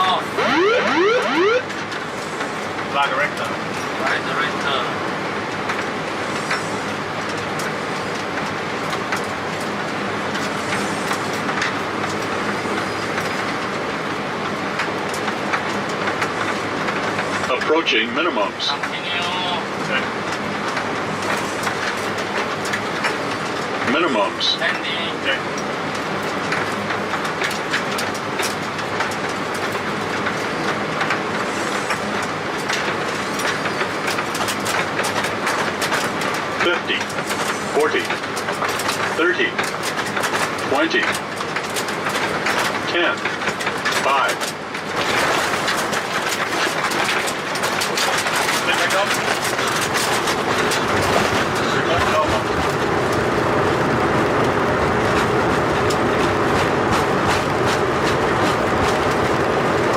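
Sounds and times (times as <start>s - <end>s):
airflow and engine rush: 0.0s - 59.9s
rattles and clicks: 5.5s - 17.8s, 18.6s - 24.0s, 24.6s - 59.9s.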